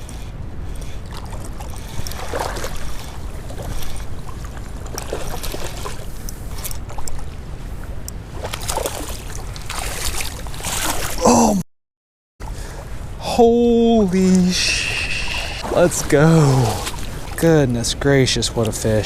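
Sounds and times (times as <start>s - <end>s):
river water flowing: 0.1s - 11.2s, 12.4s - 18.9s.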